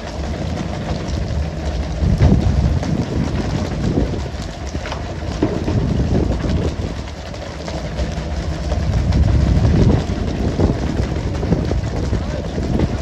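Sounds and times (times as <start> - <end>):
boat engine running: 0.0 - 13.0
wind noise on microphone: 0.0 - 13.0.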